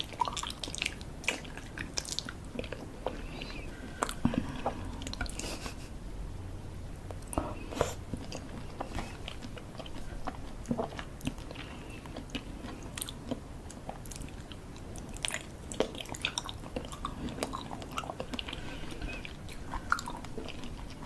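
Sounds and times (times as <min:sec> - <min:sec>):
person chewing and crunching: 0:00.0 - 0:05.8, 0:07.1 - 0:21.0
wet mouth sounds: 0:00.0 - 0:05.8, 0:07.0 - 0:21.0.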